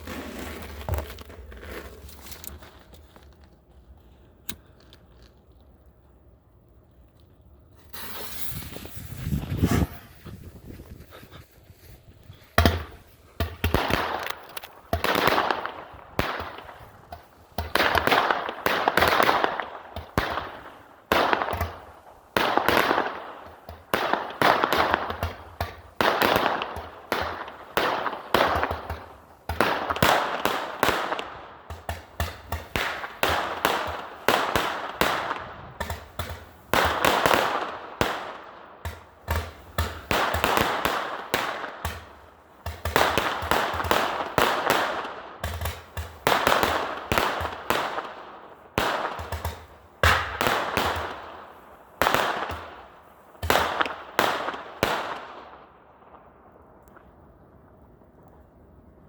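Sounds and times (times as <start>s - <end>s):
fireworks bangs and crackles: 7.8s - 10.8s, 12.6s - 57.2s.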